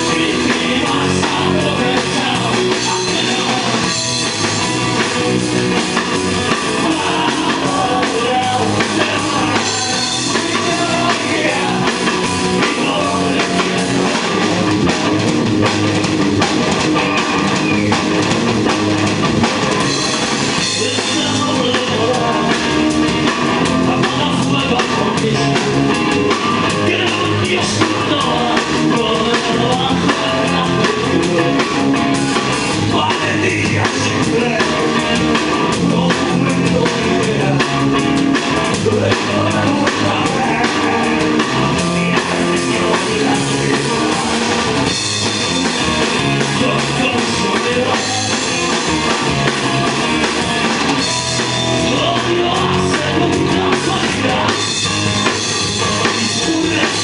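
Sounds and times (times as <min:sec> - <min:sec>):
man singing: 0:00.0 - 0:05.2, 0:06.0 - 0:15.3, 0:19.8 - 0:57.0
rock band playing: 0:00.0 - 0:57.0.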